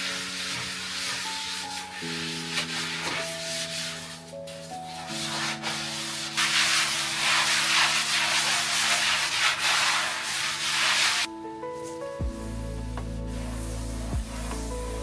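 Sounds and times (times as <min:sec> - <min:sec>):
scrubbing a hard surface: 0:00.0 - 0:12.4
soft background music: 0:00.0 - 0:15.0.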